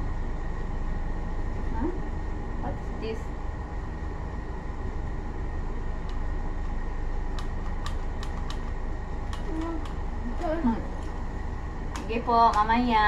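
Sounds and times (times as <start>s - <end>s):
air conditioning humming: 0.0s - 13.0s.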